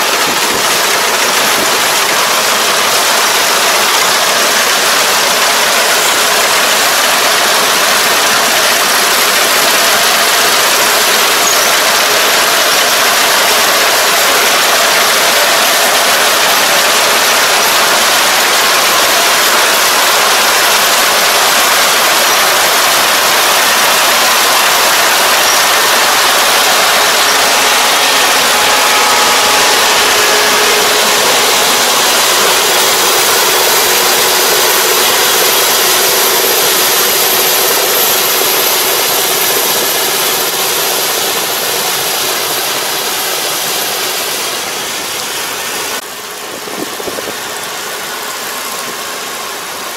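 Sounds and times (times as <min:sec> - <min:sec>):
combine harvester running: 0:00.0 - 0:49.9.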